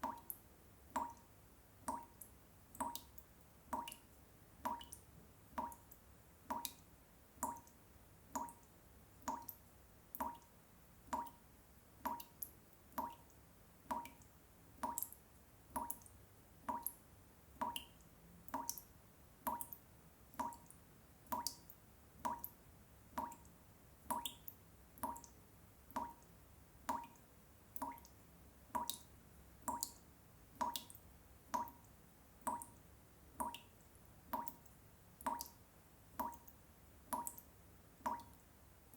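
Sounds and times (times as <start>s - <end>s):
water dripping: 0.0s - 38.5s.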